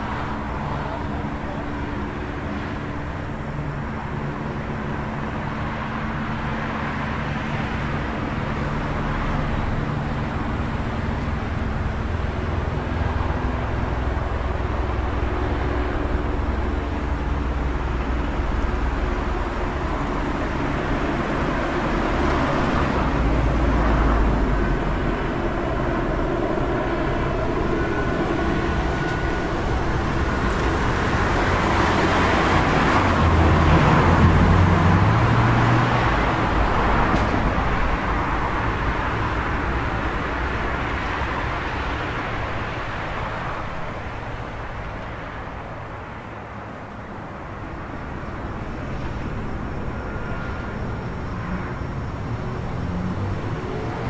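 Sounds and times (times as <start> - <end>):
passing traffic: 0.0 - 54.0.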